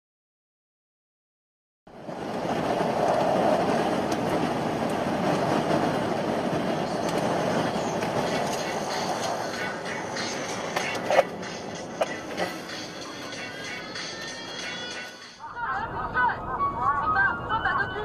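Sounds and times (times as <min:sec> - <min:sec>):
moving vehicle rumbling: 0:01.9 - 0:18.0.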